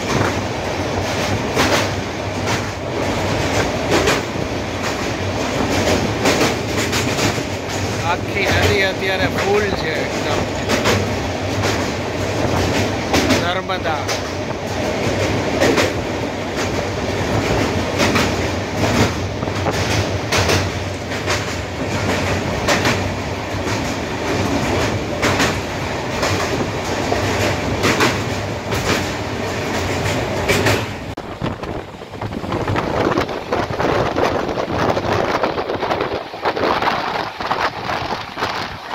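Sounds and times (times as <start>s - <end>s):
train rumble: 0.0s - 38.9s
wheels clacking over rail joints: 0.0s - 38.9s.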